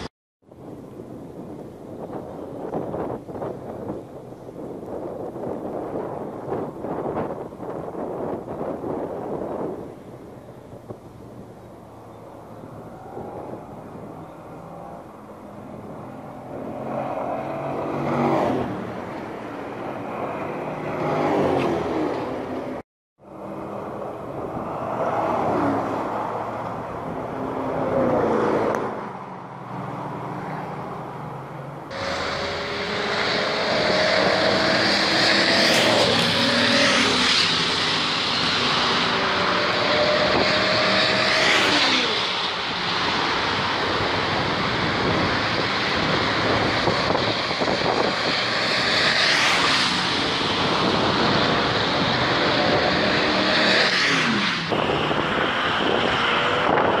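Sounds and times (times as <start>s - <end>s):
race cars passing by: 2.1s - 57.0s.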